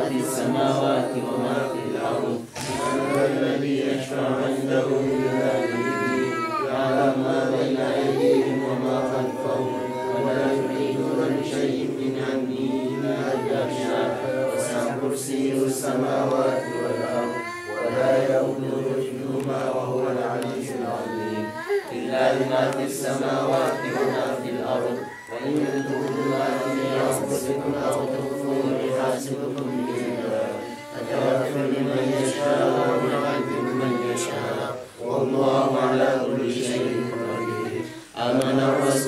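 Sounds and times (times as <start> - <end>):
voices chanting together: 0.0 - 39.0.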